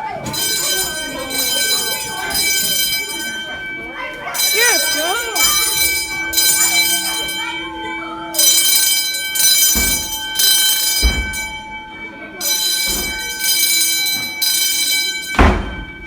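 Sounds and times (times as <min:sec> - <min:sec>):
fire alarm horn buzzing: 0:00.0 - 0:16.0.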